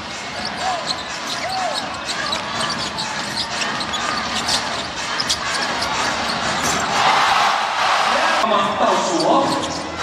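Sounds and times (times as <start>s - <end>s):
arena crowd noise: 0.0s - 10.0s.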